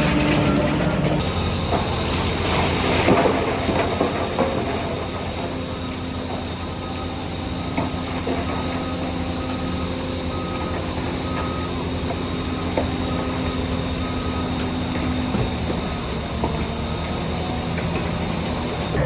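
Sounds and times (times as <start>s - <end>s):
diesel engine running: 0.0s - 19.0s
reversing alarm beeping: 0.2s - 19.0s.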